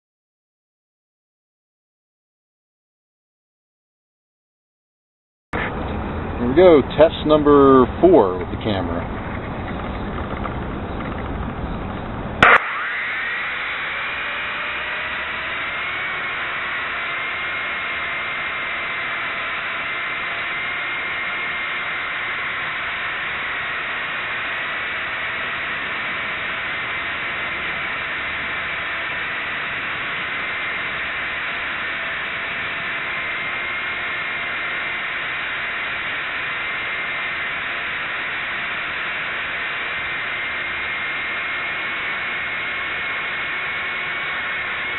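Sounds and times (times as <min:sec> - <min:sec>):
toy helicopter rotor whine: 0:06.4 - 0:44.9.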